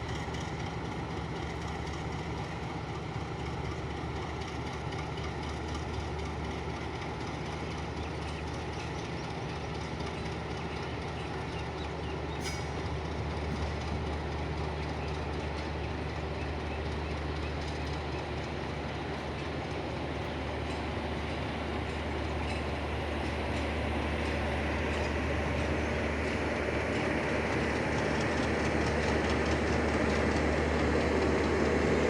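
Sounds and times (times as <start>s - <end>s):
passenger train rolling past: 0.0s - 32.0s
train wheels clicking over rail joints: 0.0s - 32.0s.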